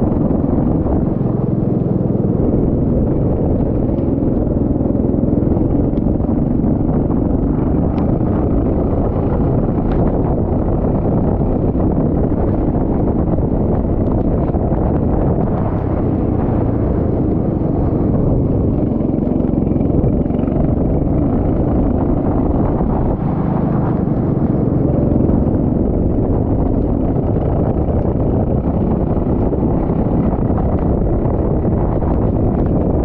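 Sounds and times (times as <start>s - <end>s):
racing kart engine: 0.0s - 33.0s.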